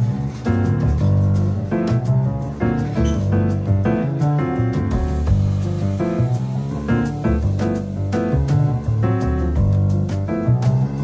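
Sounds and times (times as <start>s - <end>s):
instrumental music with bass: 0.0s - 11.0s.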